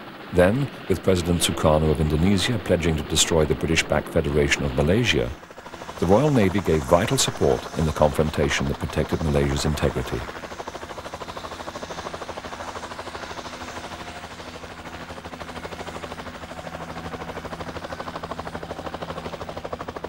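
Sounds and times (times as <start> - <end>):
helicopter engine drone: 0.0 - 20.0
helicopter rotor chop: 0.0 - 20.0.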